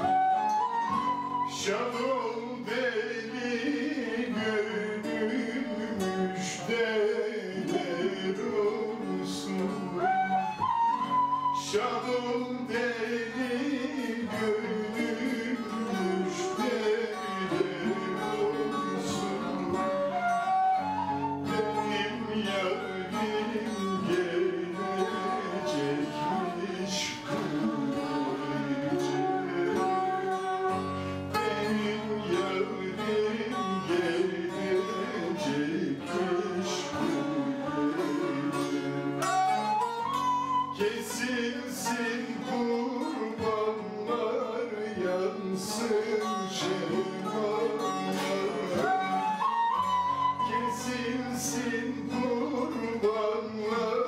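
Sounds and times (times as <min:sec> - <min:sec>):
folk tune on plucked strings: 0:00.0 - 0:54.0.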